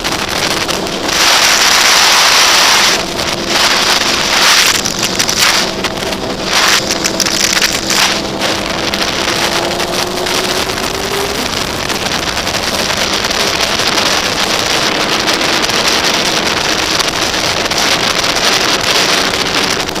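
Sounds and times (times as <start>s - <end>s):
motorcycle engine droning: 0.0s - 20.0s
wind rushing over microphone: 0.0s - 20.0s.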